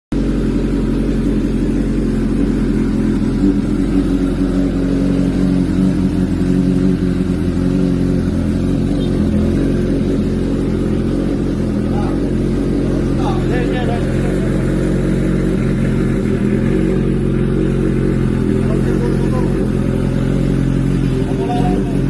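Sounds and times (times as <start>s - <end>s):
motorcycle engine idling: 0.1s - 22.0s.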